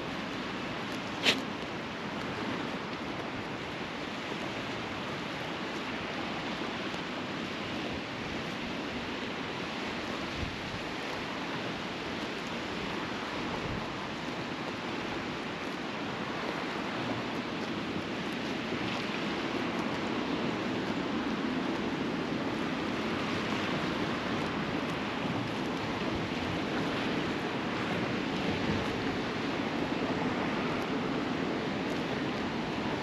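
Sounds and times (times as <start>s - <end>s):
sea waves: 0.0s - 33.0s
wind: 0.0s - 33.0s.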